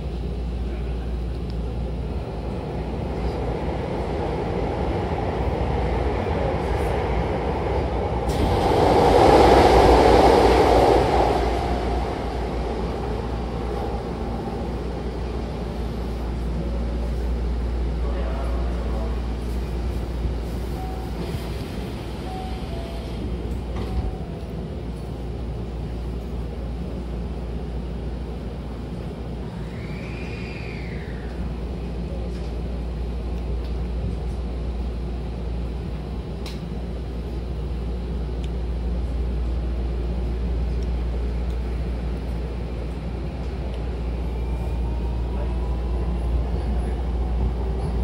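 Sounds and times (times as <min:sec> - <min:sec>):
low hum of train equipment: 0:00.0 - 0:48.0.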